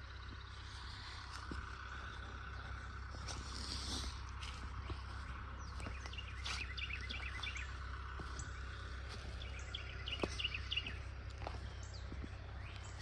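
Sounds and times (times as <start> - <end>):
low outdoor background hum: 0.0 - 13.0
small birds chirping: 0.0 - 13.0.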